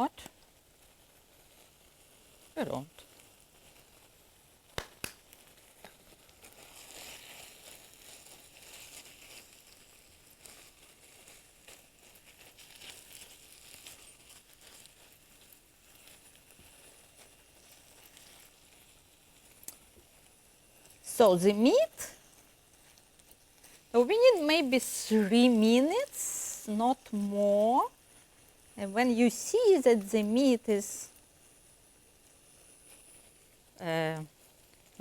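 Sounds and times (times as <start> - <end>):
meat sizzling in frying pan: 0.0 - 35.0.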